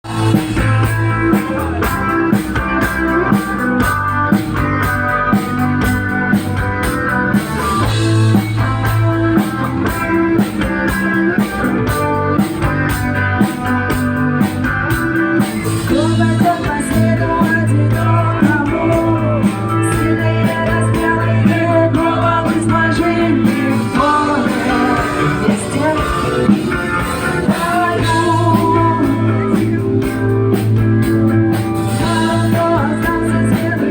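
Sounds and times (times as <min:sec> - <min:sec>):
live band with singer: 0:00.0 - 0:33.9.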